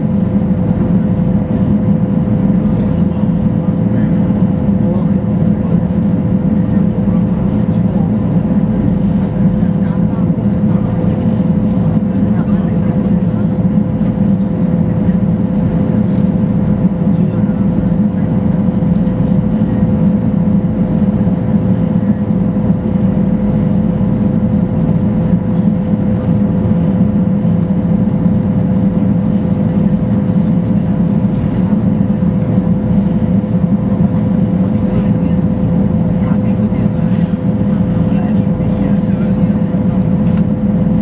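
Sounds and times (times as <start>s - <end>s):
loud turbine drone: 0.0s - 41.0s
steady whine: 0.0s - 41.0s.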